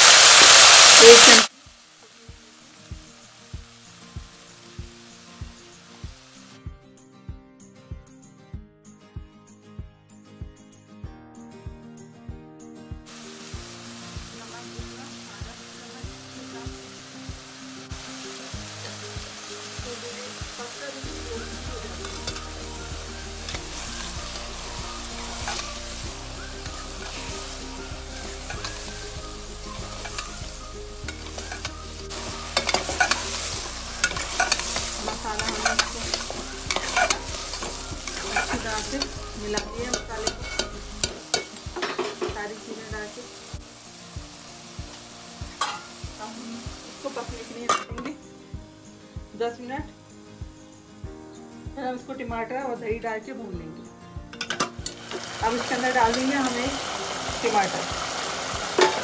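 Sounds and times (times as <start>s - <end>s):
vegetables sizzling in a pot: 0.0s - 6.6s, 13.1s - 51.0s, 54.3s - 59.0s.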